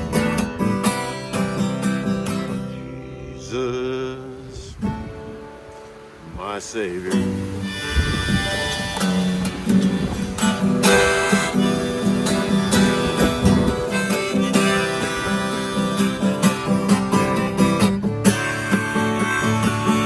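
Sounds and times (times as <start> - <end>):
held melody notes: 0.0 - 4.2, 7.0 - 20.0
acoustic guitar strumming: 0.0 - 20.0.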